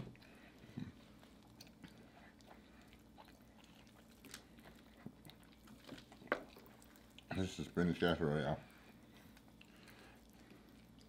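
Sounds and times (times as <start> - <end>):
quiet chewing: 0.0 - 11.0.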